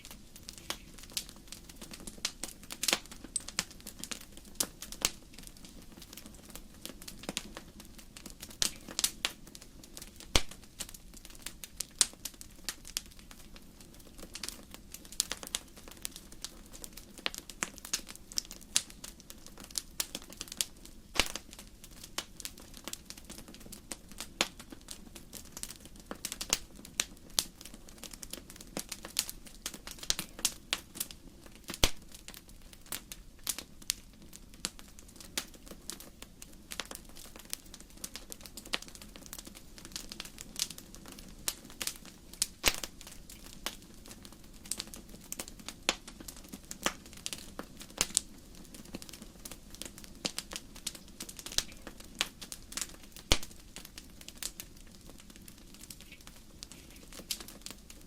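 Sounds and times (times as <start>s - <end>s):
low steady rush of fire: 0.0s - 58.0s
wood fire crackling and popping: 0.0s - 58.0s.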